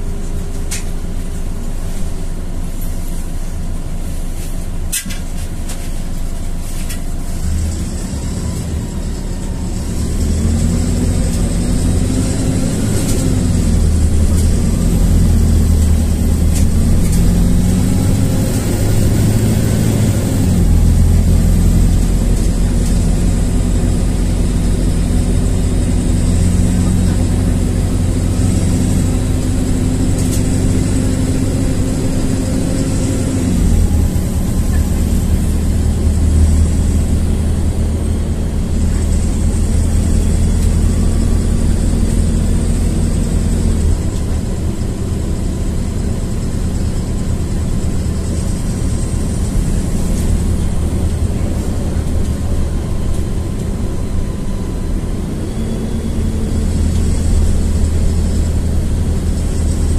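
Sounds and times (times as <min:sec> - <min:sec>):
bus diesel engine humming: 0:00.0 - 0:59.9.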